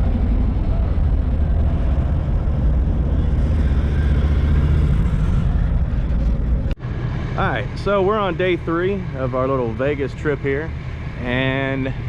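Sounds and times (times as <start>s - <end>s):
vehicle rumbling in traffic: 0.0s - 12.0s.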